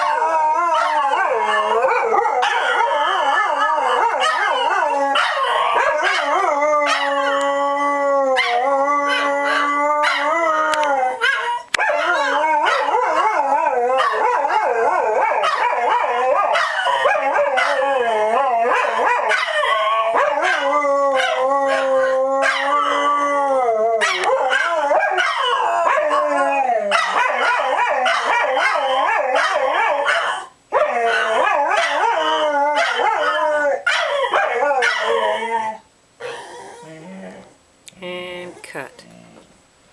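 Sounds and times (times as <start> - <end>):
dogs howling: 0.0 - 37.5.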